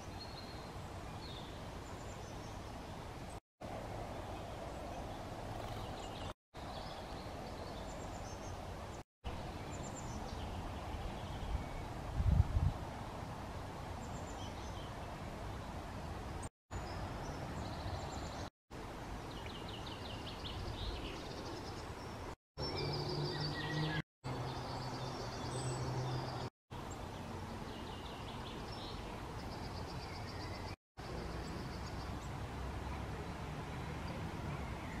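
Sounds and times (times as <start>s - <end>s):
songbirds singing and chirping: 0.0s - 35.0s.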